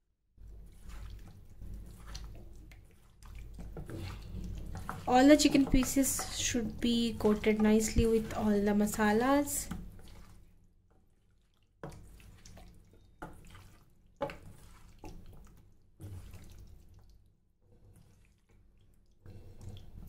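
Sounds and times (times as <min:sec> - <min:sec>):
wet squishing of marinated meat: 0:00.4 - 0:20.0.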